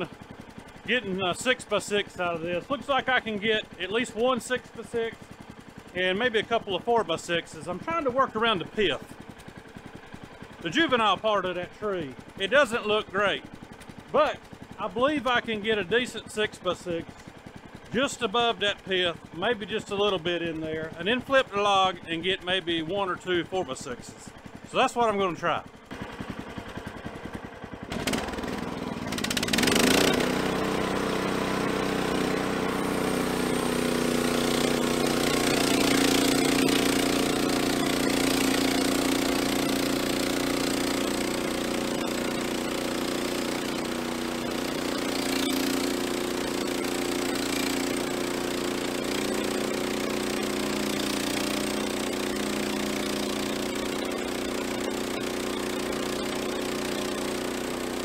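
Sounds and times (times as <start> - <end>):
sawmill gas engine running: 0.0 - 58.0.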